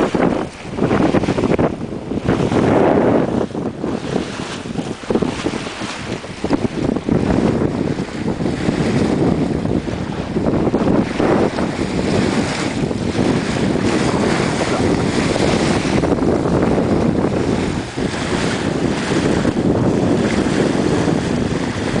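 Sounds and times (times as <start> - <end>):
water rushing along a hull: 0.0 - 22.0
wind buffeting microphone: 0.0 - 22.0.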